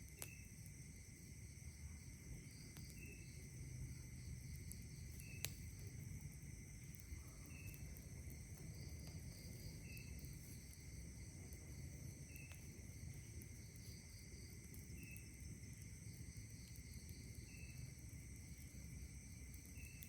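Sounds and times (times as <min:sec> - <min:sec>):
campfire popping: 0:00.0 - 0:20.0
night insects chorus: 0:00.0 - 0:20.0.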